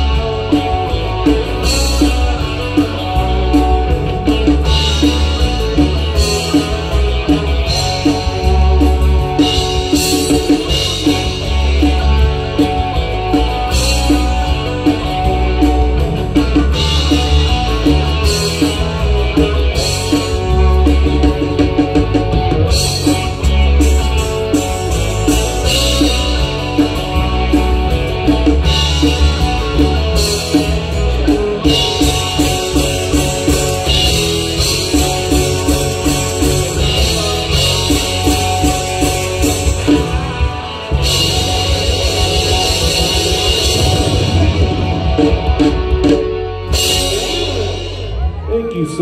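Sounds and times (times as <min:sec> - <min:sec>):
rock band playing loud: 0:00.0 - 0:49.0.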